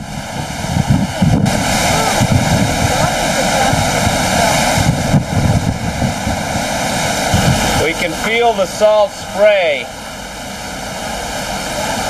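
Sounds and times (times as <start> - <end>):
sea rushing in wake: 0.0 - 12.0
wind buffeting microphone: 0.0 - 12.0.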